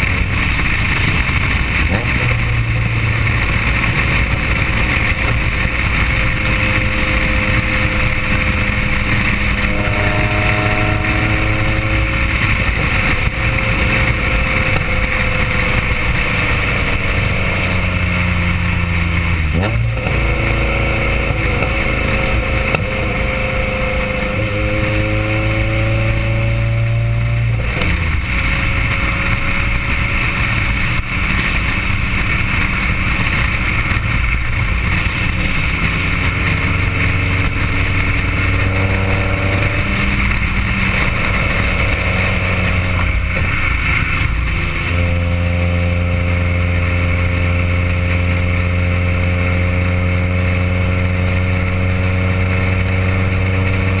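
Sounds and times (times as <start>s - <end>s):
car exhaust revving: 0.0s - 54.0s
wind and road noise: 0.0s - 54.0s.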